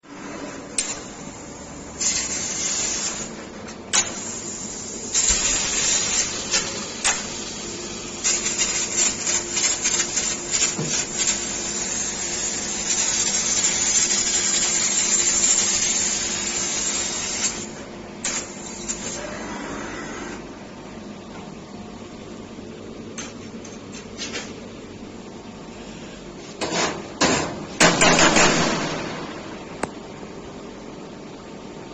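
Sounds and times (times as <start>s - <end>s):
steady machine hum: 0.0s - 31.9s.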